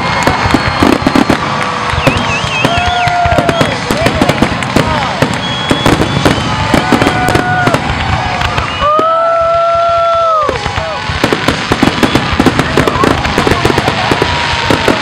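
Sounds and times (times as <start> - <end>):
fireworks booms and crackling: 0.0 - 15.0
fireworks whistling: 0.0 - 15.0.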